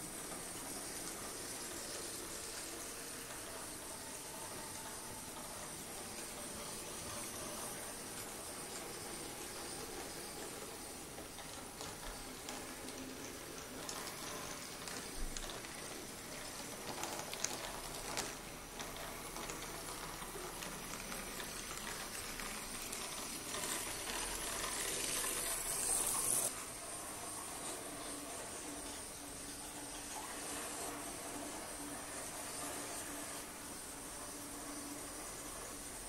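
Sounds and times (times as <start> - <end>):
model train motor whirring: 0.0 - 36.0
steady hiss: 0.0 - 36.0.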